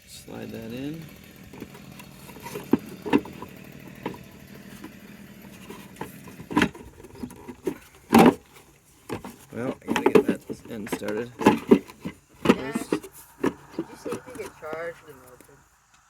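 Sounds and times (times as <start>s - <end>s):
plastic scraping rattle: 0.3s - 15.6s
plastic clicks and knocks: 1.5s - 14.6s.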